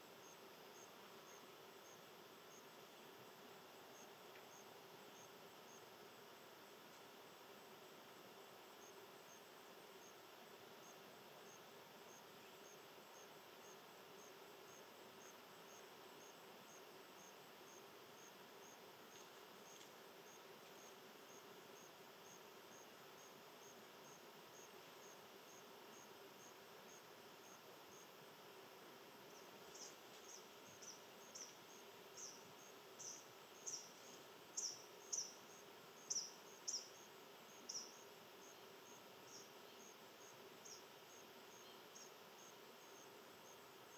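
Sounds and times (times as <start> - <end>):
faint insect chirping: 0.0 - 43.9.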